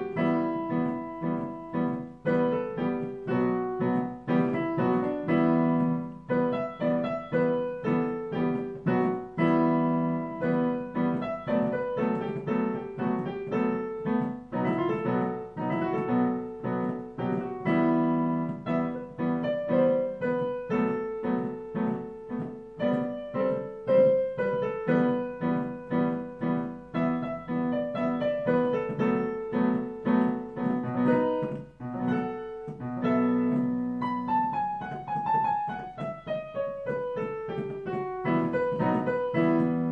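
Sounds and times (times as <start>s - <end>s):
solo piano improvisation: 0.0s - 39.9s.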